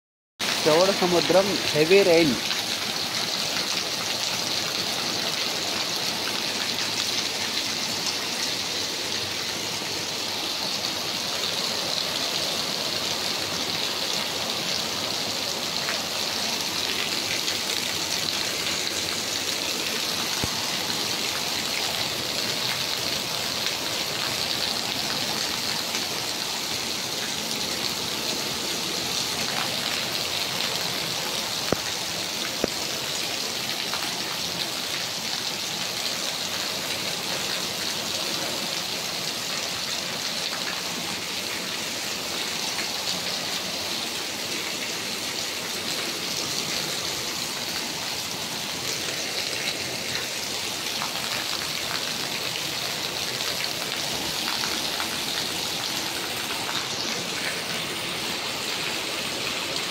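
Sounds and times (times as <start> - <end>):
heavy rain falling: 0.4 - 59.9
water pouring off roof: 0.4 - 59.9.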